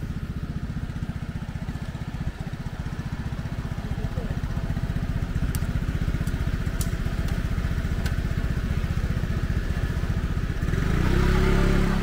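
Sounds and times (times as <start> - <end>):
motor scooter engine idling: 0.0 - 12.0.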